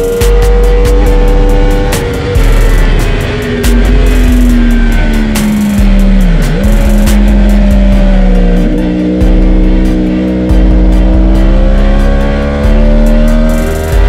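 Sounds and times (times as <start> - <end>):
heavy low rumble: 0.0 - 14.0
motorbike engine accelerating: 0.0 - 14.0.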